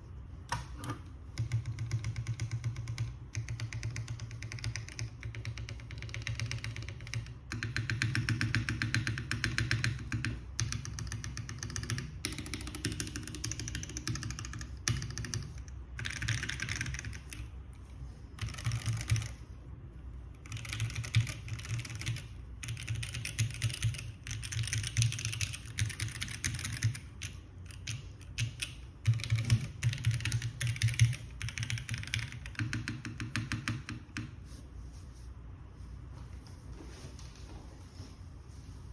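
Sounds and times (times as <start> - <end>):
mechanical keyboard typing: 0.5 - 17.5, 18.4 - 19.4, 20.4 - 34.3.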